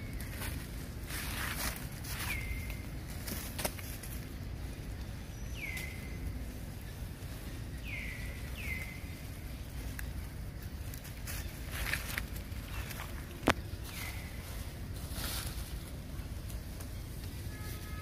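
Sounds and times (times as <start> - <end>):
low forest rumble: 0.0 - 18.0.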